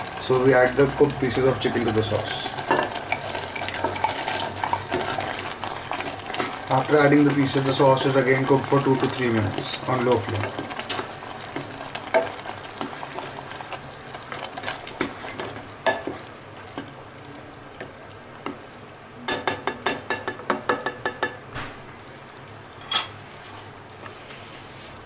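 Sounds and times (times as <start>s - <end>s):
sauce simmering in a pan: 0.0s - 25.0s.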